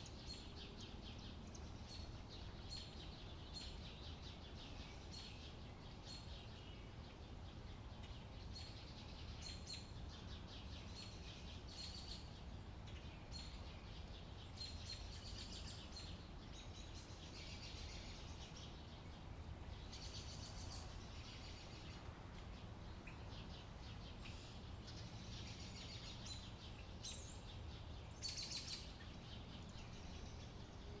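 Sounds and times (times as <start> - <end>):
faint low background rumble: 0.0 - 31.0
songbirds chirping: 0.0 - 31.0.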